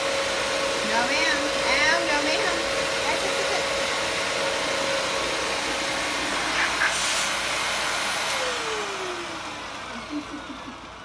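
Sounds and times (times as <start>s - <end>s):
vacuum cleaner whine: 0.0s - 11.0s.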